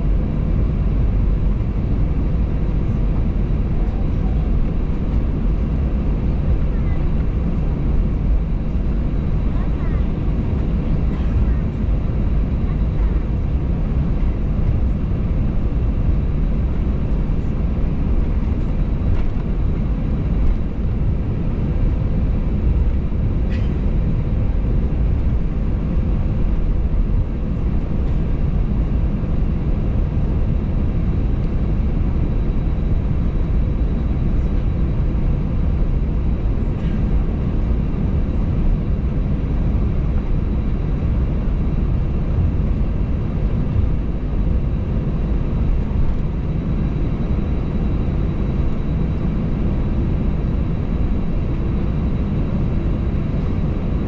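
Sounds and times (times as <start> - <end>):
low rumble of aircraft cabin: 0.0 - 54.0.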